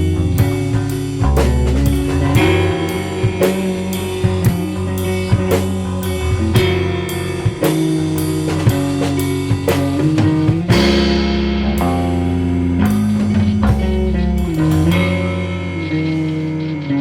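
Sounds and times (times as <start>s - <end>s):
drum kit beat: 0.0s - 16.8s
rock band playing: 0.0s - 17.0s.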